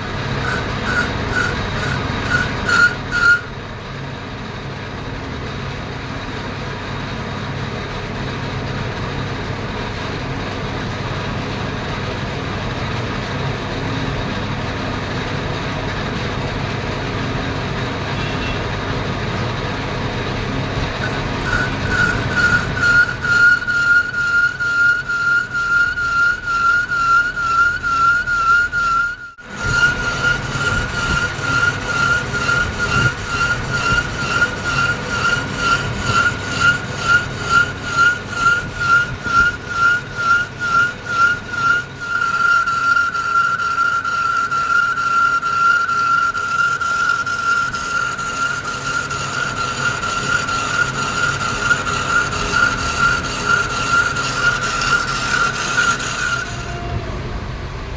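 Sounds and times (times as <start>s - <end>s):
metal lathe whine: 0.0s - 57.9s.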